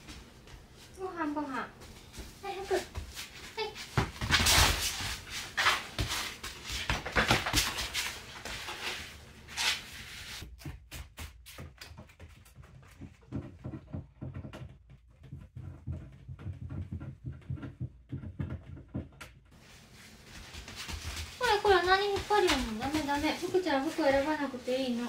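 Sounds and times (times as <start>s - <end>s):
puppy paws scrabbling on mats: 0.0s - 25.0s.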